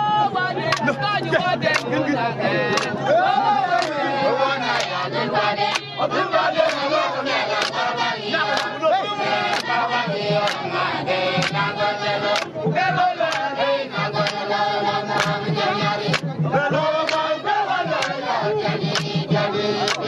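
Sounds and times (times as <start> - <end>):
crowd chanting: 0.0 - 20.0.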